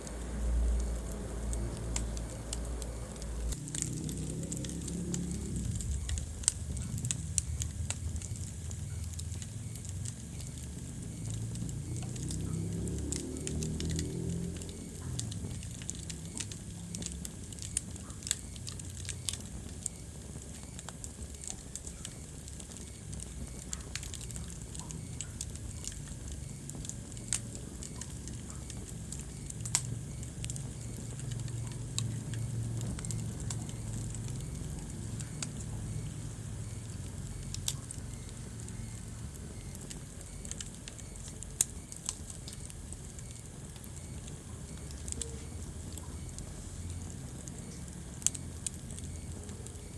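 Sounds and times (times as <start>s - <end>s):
low rumble of flames: 0.0s - 49.9s
sharp pops of fire: 0.0s - 49.9s
wood fire crackling: 0.0s - 49.9s.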